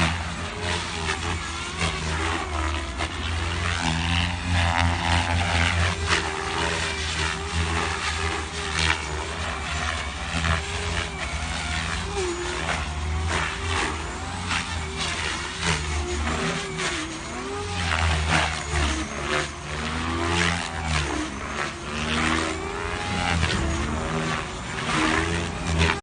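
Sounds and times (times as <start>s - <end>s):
toy helicopter motors and rotor: 0.0s - 26.0s.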